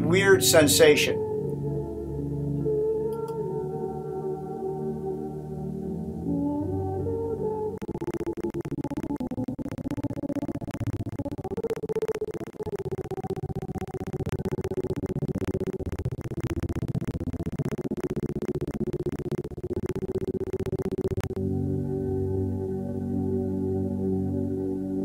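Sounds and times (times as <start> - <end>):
smooth ambient chord: 0.0 - 25.0
synthesizer music: 0.0 - 25.0.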